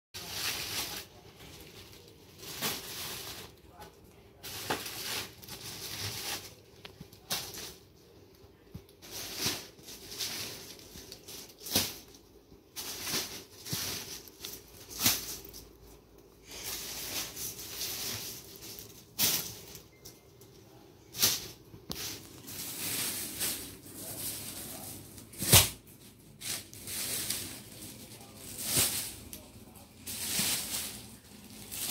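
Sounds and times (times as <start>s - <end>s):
plastic packaging crinkling: 0.2s - 31.9s.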